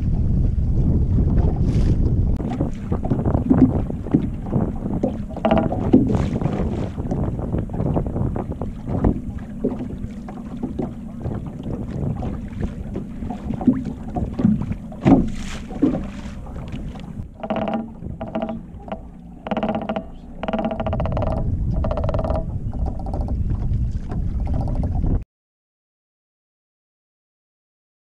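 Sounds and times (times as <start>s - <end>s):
low rumble: 0.0s - 25.2s
water: 0.0s - 25.2s
wind: 0.0s - 25.2s.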